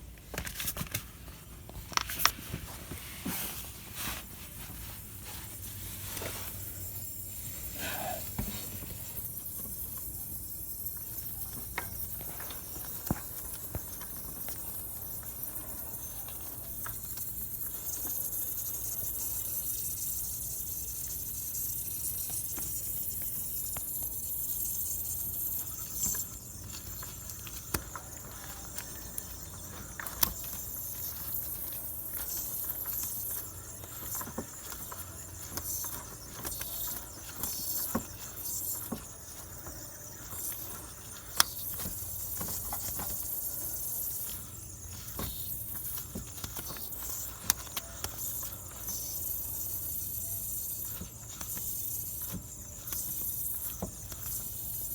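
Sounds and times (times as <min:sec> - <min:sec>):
compressor hiss: 0:02.2 - 0:54.9.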